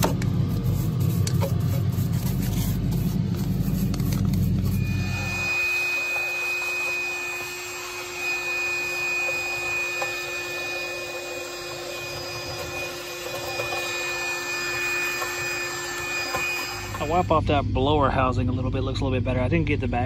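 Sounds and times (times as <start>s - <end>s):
shop vacuum whining: 0.0s - 17.9s.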